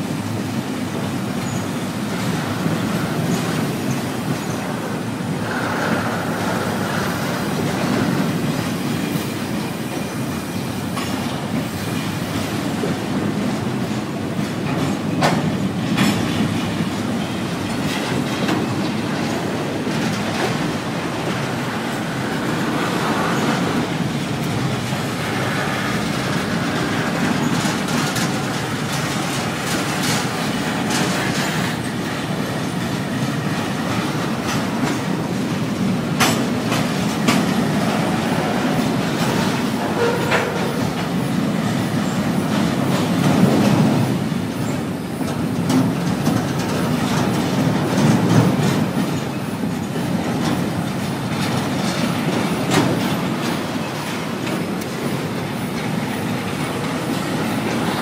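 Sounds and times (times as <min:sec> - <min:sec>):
clickety-clack over rail joints: 0:00.0 - 0:58.0
train wheels rumbling on rails: 0:00.0 - 0:58.0.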